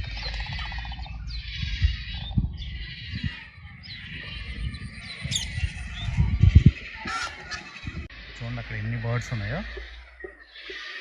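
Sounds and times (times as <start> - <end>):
waterbirds bleating calls: 0.0 - 11.0.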